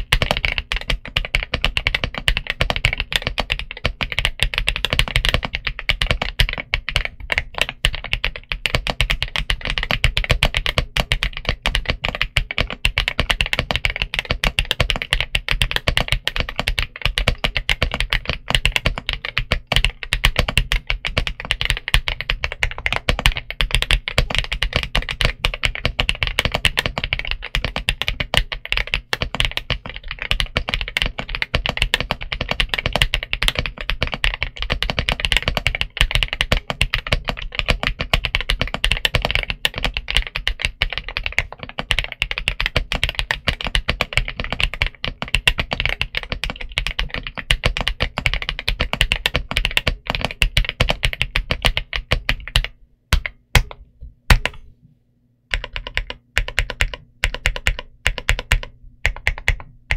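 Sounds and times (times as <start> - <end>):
mechanical keyboard typing: 0.0 - 54.6, 55.5 - 59.9.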